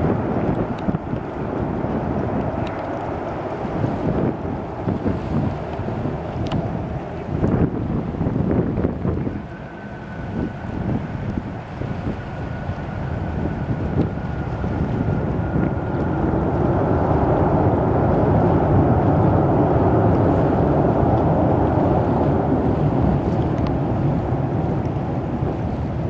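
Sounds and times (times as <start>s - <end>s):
distant jet engine rumble: 0.0s - 26.0s.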